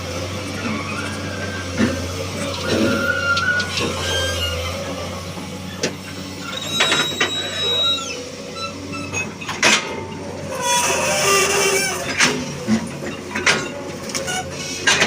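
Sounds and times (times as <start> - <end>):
excavator engine hum: 0.0 - 15.0.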